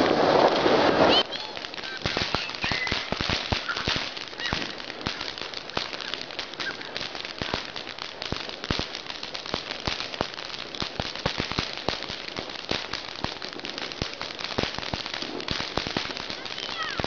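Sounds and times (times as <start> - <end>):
firework fountain hissing: 0.0 - 17.0
sharp crackling pops: 0.0 - 17.0.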